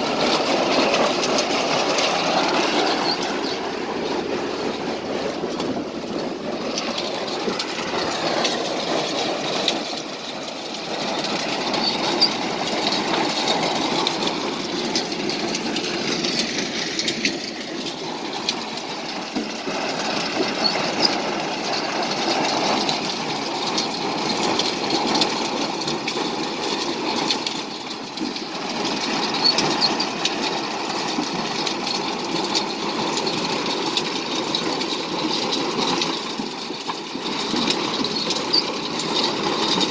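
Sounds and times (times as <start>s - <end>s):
conveyor clattering: 0.0s - 39.9s
engine running: 0.0s - 39.9s.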